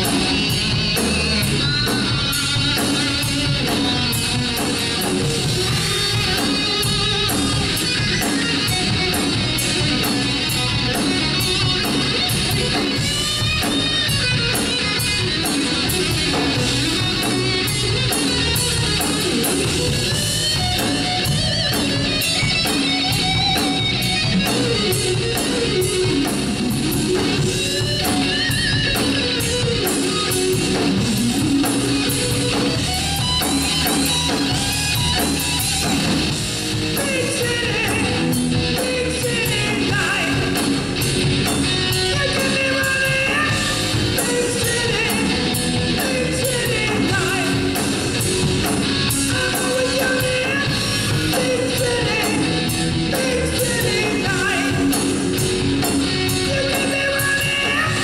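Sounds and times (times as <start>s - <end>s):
bass guitar: 0.0s - 58.0s
drum beat with cymbal hits: 0.0s - 58.0s
electric guitar: 0.0s - 58.0s.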